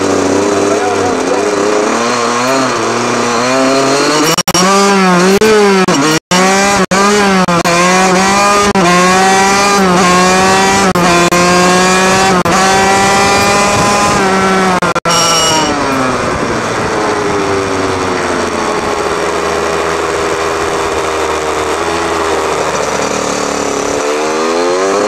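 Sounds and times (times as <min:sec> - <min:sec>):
two-stroke motorcycle engine: 0:00.0 - 0:25.0.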